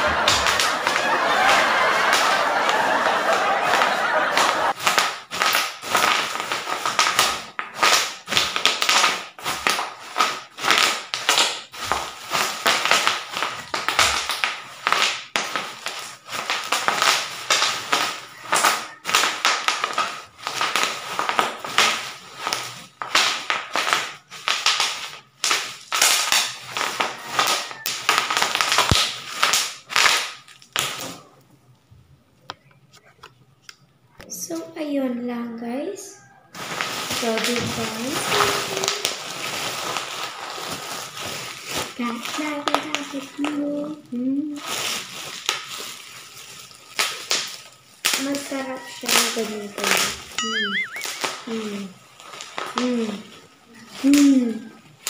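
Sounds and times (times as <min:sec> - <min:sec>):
bubble wrap popping underfoot: 0:00.0 - 0:31.4, 0:36.5 - 0:55.0.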